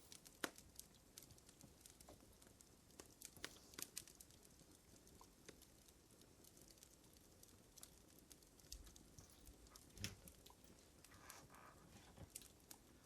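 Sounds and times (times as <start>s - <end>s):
fire crackling and popping: 0.0s - 13.0s
low fire hiss: 0.0s - 13.0s.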